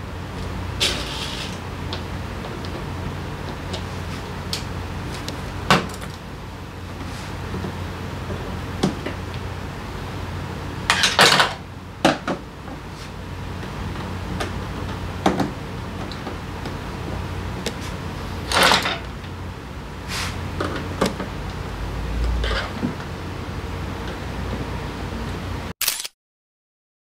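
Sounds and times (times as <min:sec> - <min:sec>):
steady low hum: 0:00.0 - 0:25.7.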